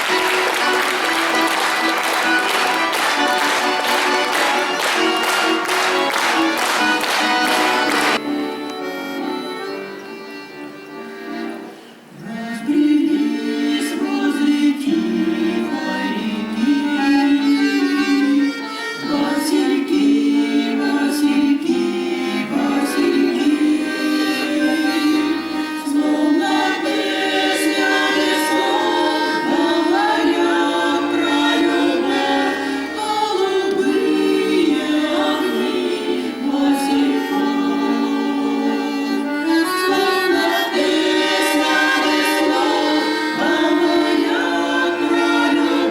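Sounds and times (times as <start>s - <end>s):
voices singing with instruments: 0.0s - 9.4s, 11.3s - 45.9s.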